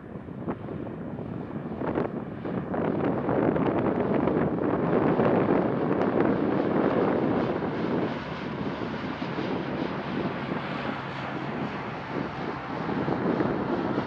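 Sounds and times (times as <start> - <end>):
turboprop engines droning: 0.0 - 14.0
wind rushing over microphone: 0.0 - 14.0.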